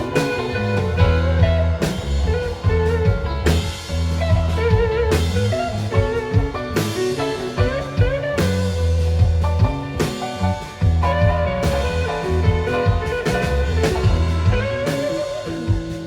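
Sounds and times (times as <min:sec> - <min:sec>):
bass guitar: 0:00.0 - 0:16.0
drum kit: 0:00.0 - 0:16.0
electric guitar lead: 0:00.0 - 0:16.0.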